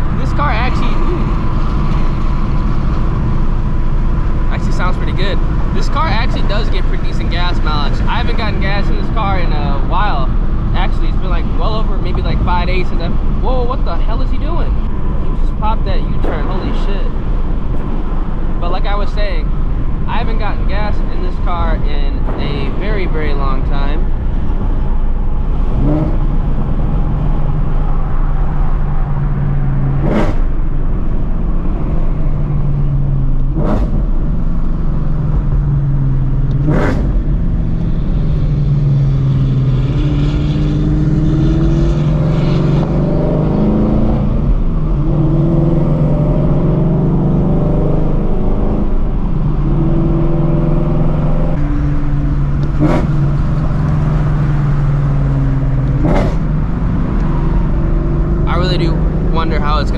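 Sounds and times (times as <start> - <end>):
car engine droning: 0.0 - 59.9.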